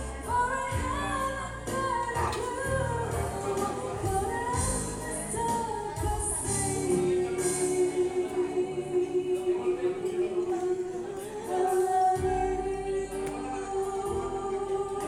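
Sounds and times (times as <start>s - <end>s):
choir singing held chords: 2.0s - 15.0s.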